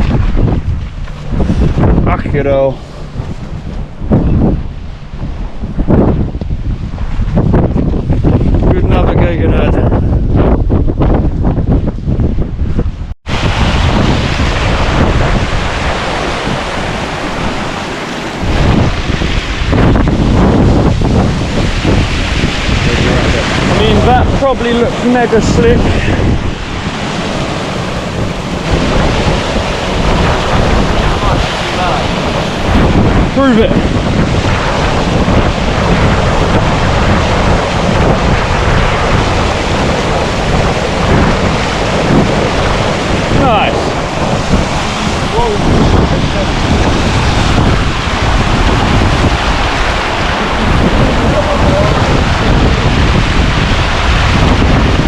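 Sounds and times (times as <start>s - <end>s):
strong wind buffeting microphone: 0.0s - 55.0s.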